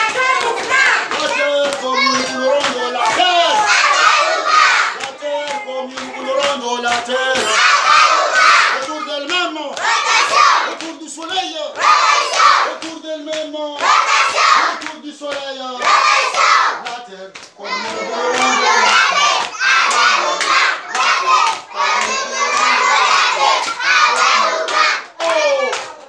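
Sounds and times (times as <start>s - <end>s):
children chanting and shouting: 0.0s - 26.0s
hand clapping: 0.0s - 26.0s.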